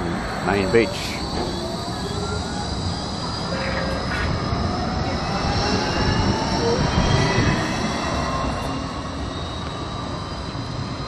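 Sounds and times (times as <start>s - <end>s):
tram electric drive whine: 0.0s - 11.0s
wheels rumbling on rail: 0.0s - 11.0s.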